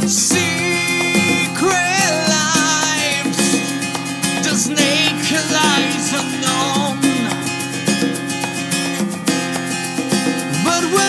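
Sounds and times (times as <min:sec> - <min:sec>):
bass guitar: 0:00.0 - 0:11.0
lead guitar melody: 0:00.0 - 0:11.0
steady drum beat: 0:00.0 - 0:11.0.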